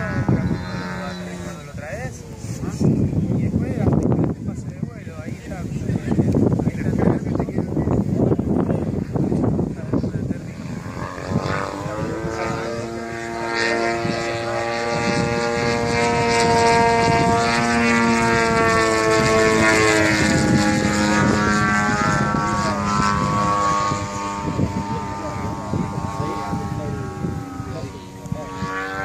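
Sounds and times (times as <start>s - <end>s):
model plane engine and propeller: 0.0s - 29.0s.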